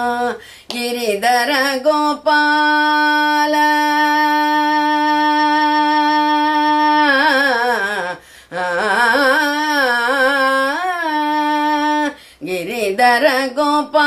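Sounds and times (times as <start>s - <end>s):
woman singing alone: 0.0s - 14.0s.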